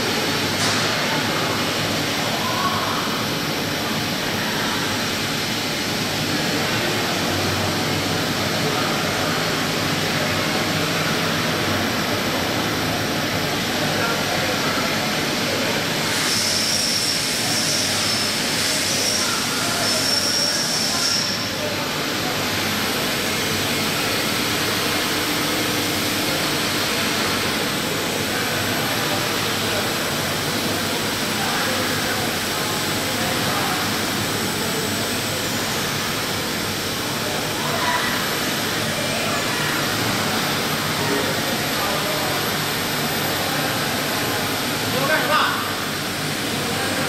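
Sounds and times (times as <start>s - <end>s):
faint machine hum: 0.0s - 47.0s.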